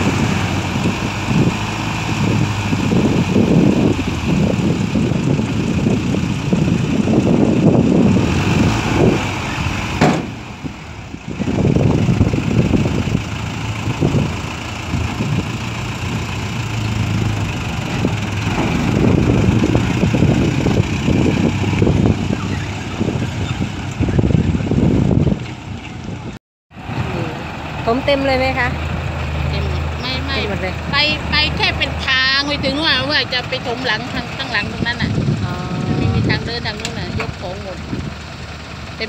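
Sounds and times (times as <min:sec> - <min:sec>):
dump truck diesel engine: 0:00.0 - 0:39.0.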